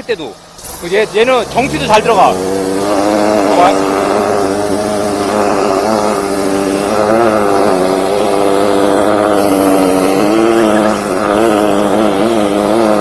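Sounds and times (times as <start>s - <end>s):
drain-jetting machine engine running: 0.0s - 13.0s.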